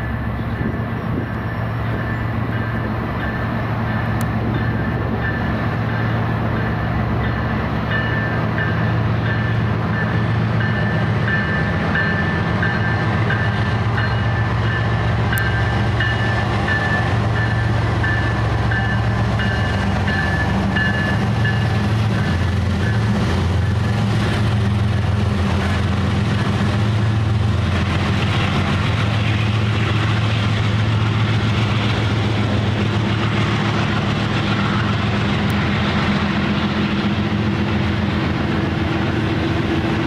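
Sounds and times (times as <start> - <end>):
train rumbling past: 0.0 - 40.0.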